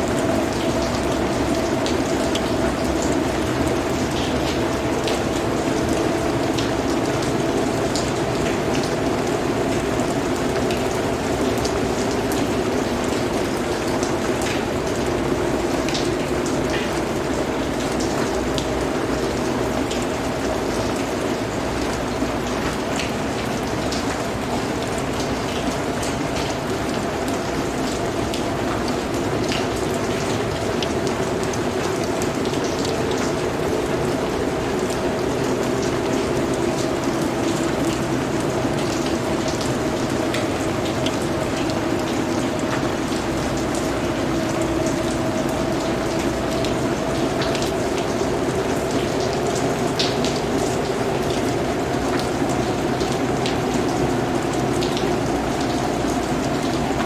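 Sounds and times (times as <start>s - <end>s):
rain drops striking close by: 0.0s - 57.0s.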